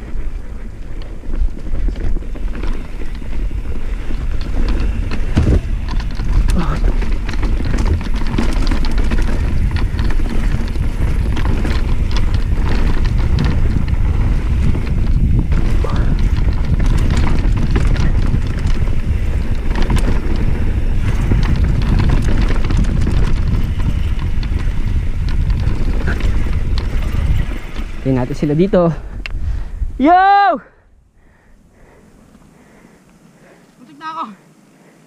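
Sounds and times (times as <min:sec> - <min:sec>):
bike clicks and rattles: 0:00.0 - 0:30.3
wind buffeting microphone: 0:00.0 - 0:33.6
bike rumbling on dirt trail: 0:00.0 - 0:35.0.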